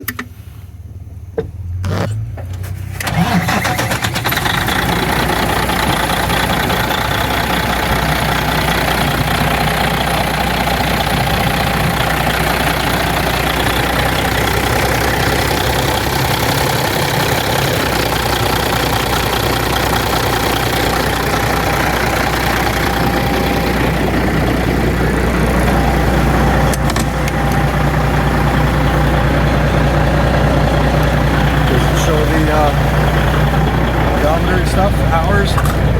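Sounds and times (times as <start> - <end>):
diesel engine cranking on starter: 0.0 - 35.9
diesel engine running: 0.0 - 35.9.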